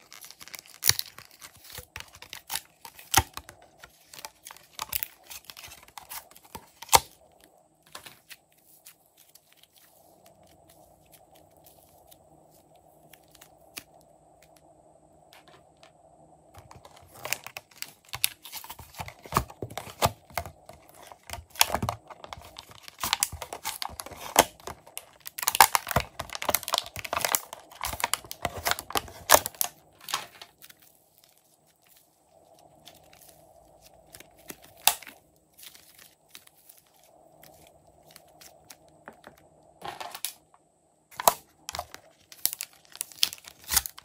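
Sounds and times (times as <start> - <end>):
plastic packaging crinkling: 0.0 - 14.6, 16.6 - 40.5, 41.1 - 44.0.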